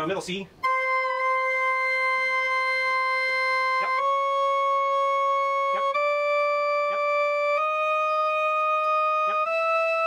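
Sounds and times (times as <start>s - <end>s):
pipe organ notes: 0.6s - 10.0s.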